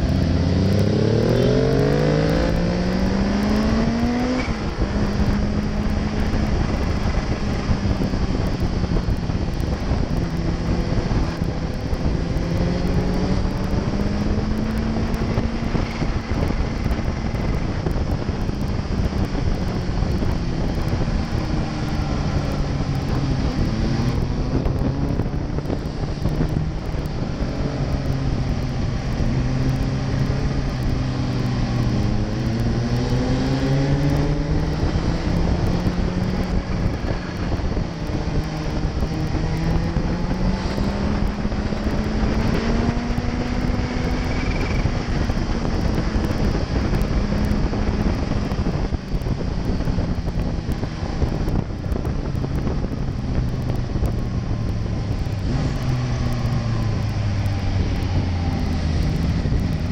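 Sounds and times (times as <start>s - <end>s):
motorcycle engine revving: 0.0s - 59.9s
wind noise on microphone: 0.0s - 59.9s.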